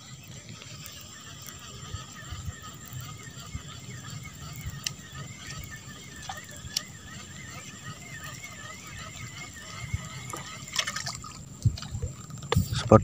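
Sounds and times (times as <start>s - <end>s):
fishing reel whine: 0.0s - 13.0s
wind rumble on microphone: 0.0s - 13.0s.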